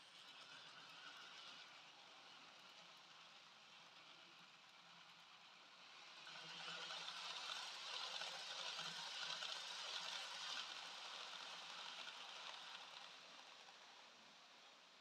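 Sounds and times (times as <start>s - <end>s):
model train whirring on rails: 0.0s - 15.0s.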